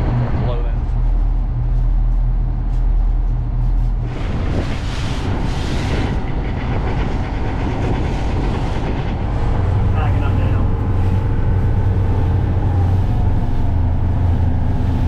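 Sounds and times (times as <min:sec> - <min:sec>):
boat engines droning: 0:00.0 - 0:15.0
wake water rushing along hull: 0:00.0 - 0:15.0.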